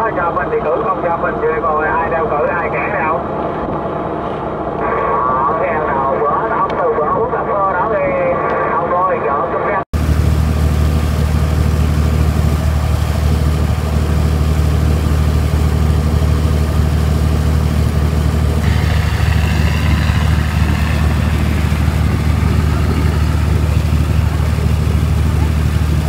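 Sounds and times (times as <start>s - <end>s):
boat diesel engine droning: 0.0s - 8.5s, 10.0s - 26.0s.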